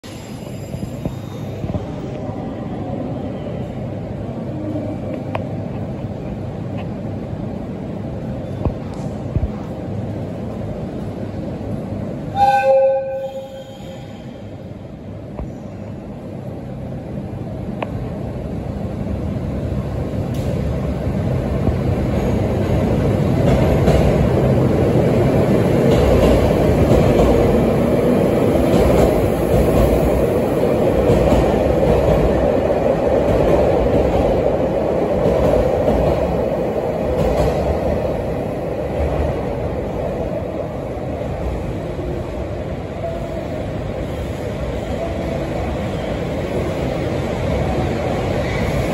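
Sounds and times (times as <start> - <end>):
train wheels on rails: 0.0 - 2.4, 4.7 - 16.6, 17.4 - 48.9.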